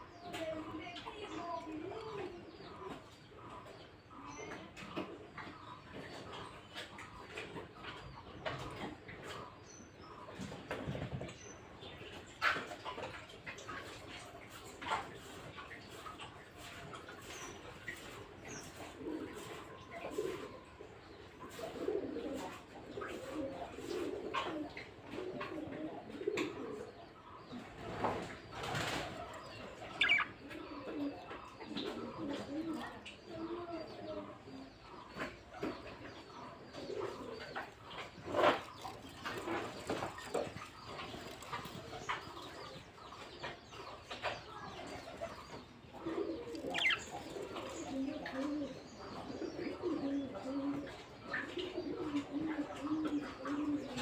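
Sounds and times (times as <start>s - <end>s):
birds chirping: 0.0s - 54.0s
birds cooing: 0.0s - 54.0s.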